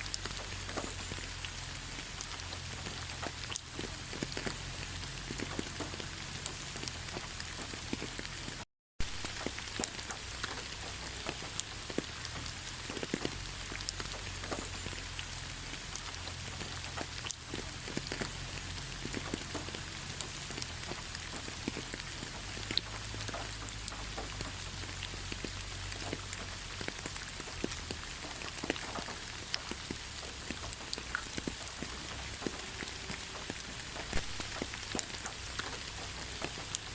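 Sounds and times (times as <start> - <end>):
gentle rain drops ticking: 0.0 - 36.9.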